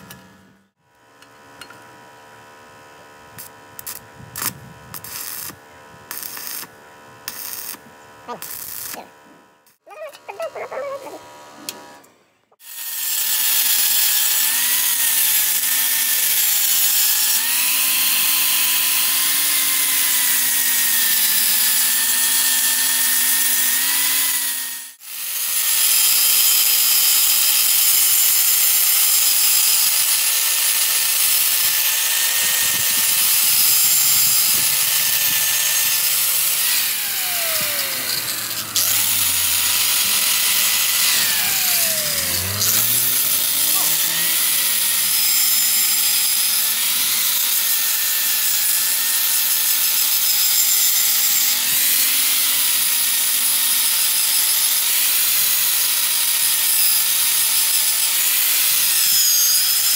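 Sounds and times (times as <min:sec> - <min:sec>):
angle grinder grinding steel: 0:03.4 - 0:06.7, 0:07.3 - 0:12.0, 0:12.6 - 0:59.9.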